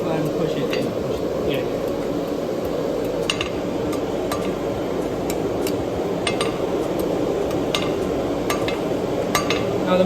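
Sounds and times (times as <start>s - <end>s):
low roar of forge: 0.0s - 10.0s.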